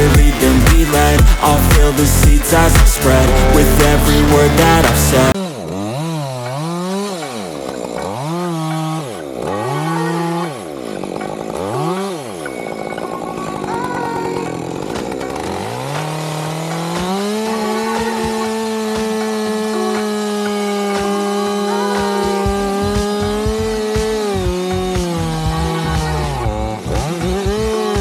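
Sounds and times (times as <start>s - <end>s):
chainsaw engine revving: 0.0s - 12.5s, 13.5s - 28.0s.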